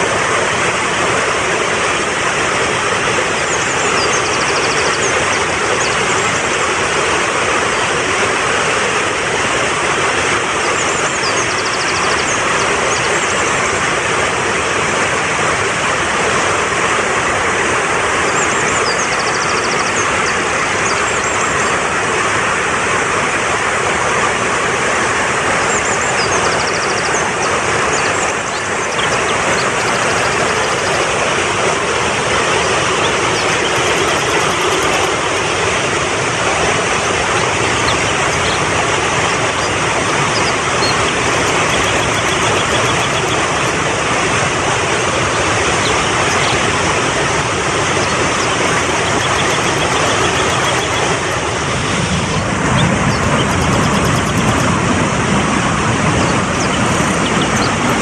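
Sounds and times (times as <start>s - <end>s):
fast-flowing stream rushing: 0.0s - 58.0s.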